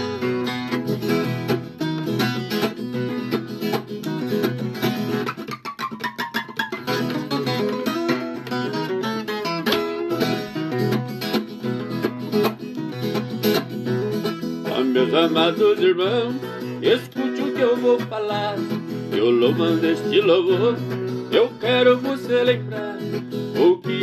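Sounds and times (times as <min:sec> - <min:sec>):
plucked ten-string guitar: 0:00.0 - 0:24.0.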